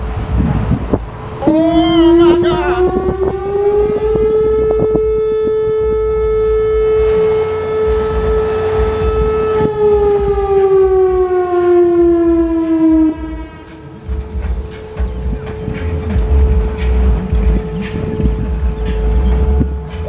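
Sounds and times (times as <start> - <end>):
siren steady tone winding down: 1.4 - 20.0.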